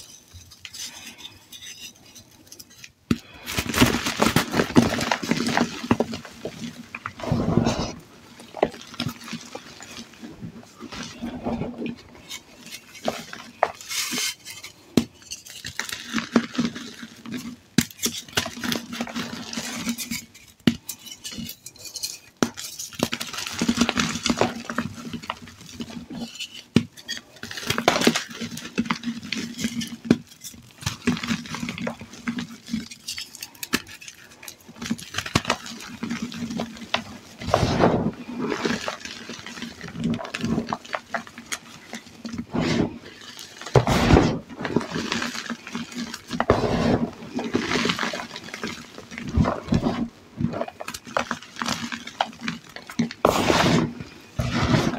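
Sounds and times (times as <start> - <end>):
hands crushing crumbly chalk: 0.0 - 54.9.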